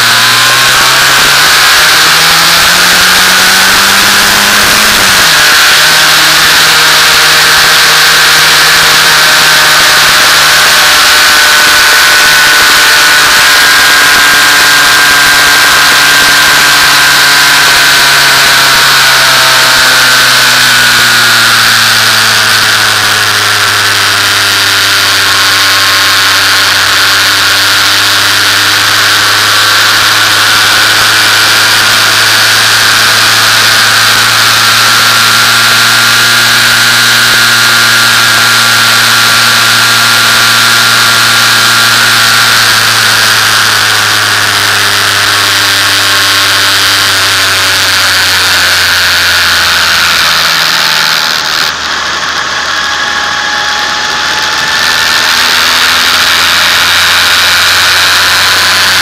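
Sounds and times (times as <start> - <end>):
race car engine running: 0.0 - 59.0.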